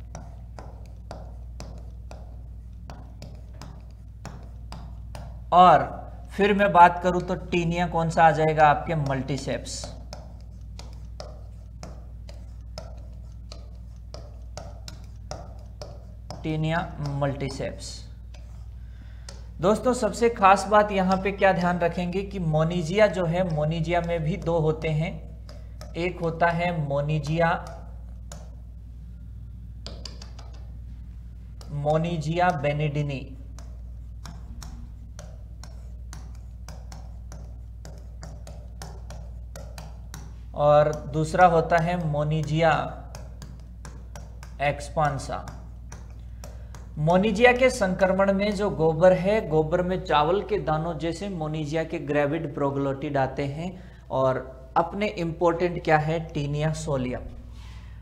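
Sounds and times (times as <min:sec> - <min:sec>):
marker scratching on whiteboard: 0:00.0 - 0:29.1, 0:29.8 - 0:49.6
steady low hum: 0:00.0 - 0:58.0.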